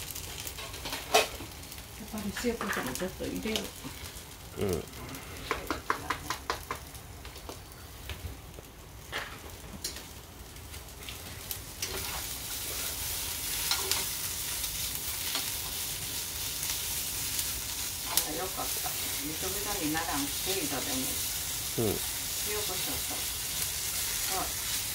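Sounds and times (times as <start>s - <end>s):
food sizzling in a frying pan: 0.0s - 24.9s.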